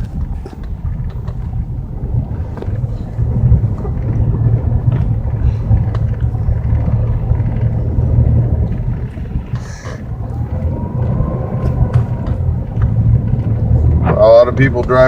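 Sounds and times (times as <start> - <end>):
truck engine and tyres rumbling: 0.0 - 15.0.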